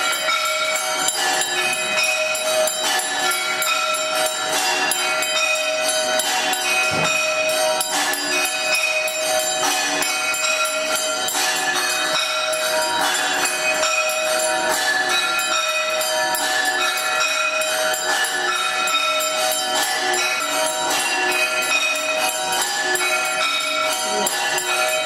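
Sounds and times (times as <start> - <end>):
jingling metal percussion: 0.0 - 25.0
temple bells ringing: 0.0 - 25.0.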